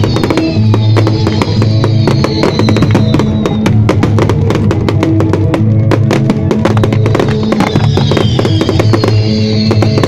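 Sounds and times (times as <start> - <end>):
fireworks pops and crackles: 0.0 - 10.0
show music with drums: 0.0 - 10.0.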